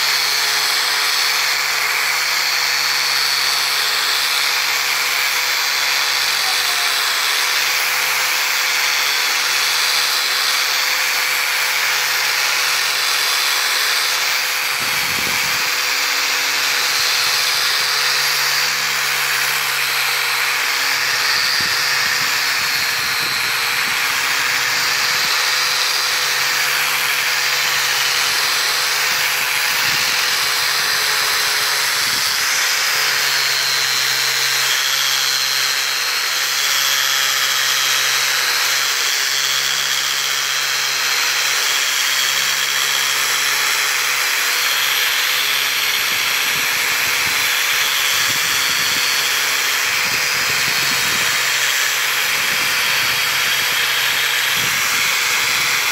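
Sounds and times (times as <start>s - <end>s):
angle grinder sanding wood: 0.0s - 55.9s.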